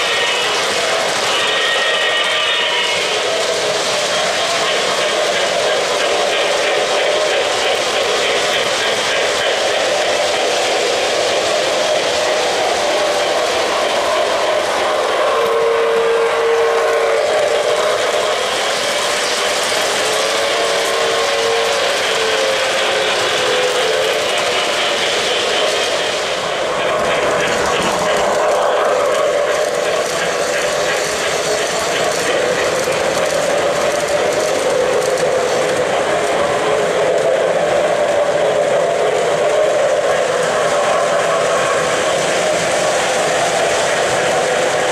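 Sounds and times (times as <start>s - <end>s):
model trains rolling and clattering: 0.0s - 44.9s.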